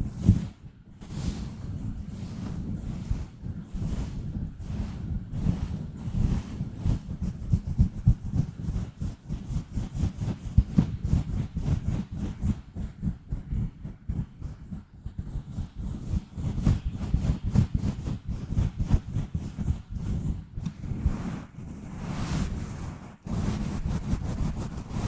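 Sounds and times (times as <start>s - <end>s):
scratching on microphone: 0.0s - 25.0s.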